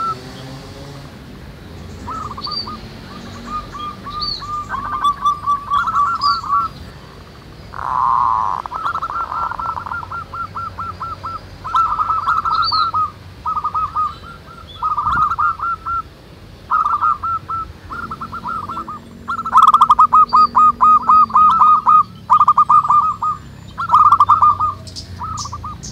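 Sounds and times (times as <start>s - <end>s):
doves cooing: 0.0s - 25.9s.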